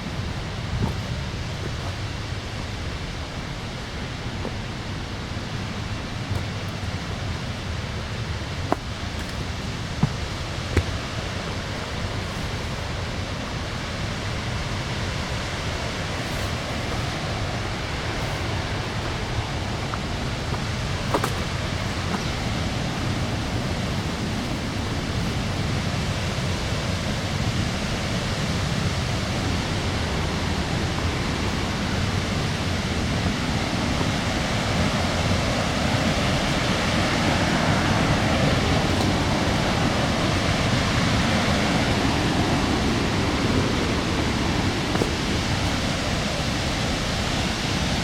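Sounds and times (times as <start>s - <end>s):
waterfall and river rushing: 0.0s - 48.0s.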